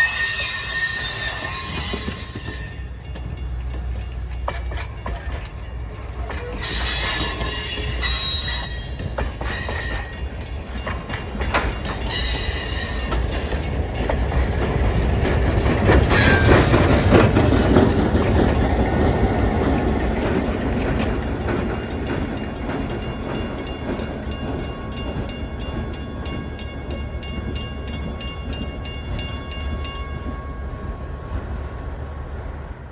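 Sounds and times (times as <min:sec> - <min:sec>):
train wheels clicking over rail joints: 0:00.0 - 0:31.0
wheels squealing against rails: 0:00.0 - 0:31.6
diesel locomotive passing: 0:00.0 - 0:32.9.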